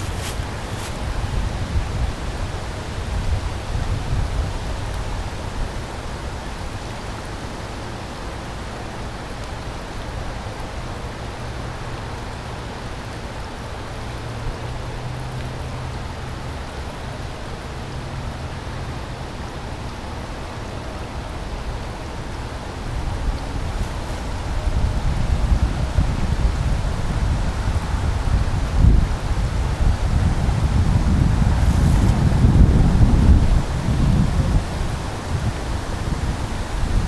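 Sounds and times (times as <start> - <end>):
falling rain: 0.0 - 37.0
fast-flowing river water: 0.0 - 37.0.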